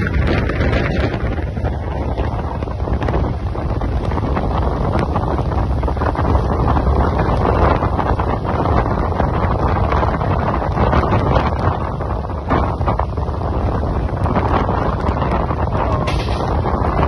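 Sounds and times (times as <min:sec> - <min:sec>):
train rumbling on track: 0:00.0 - 0:17.0
wind buffeting microphone: 0:00.0 - 0:17.0.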